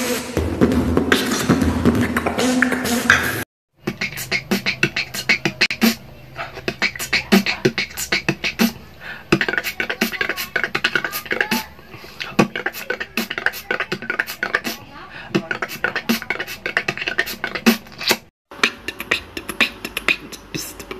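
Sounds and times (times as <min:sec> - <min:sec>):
person beatboxing: 0:00.0 - 0:20.9.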